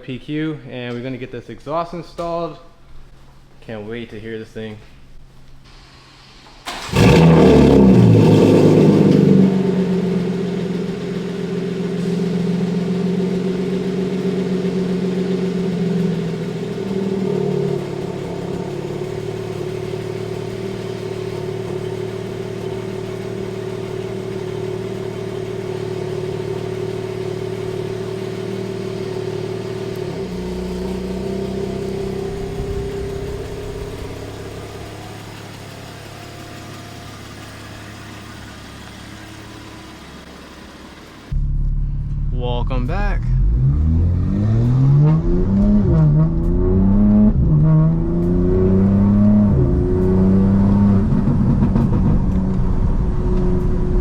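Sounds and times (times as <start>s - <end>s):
car engine starting and idling: 4.9s - 54.0s.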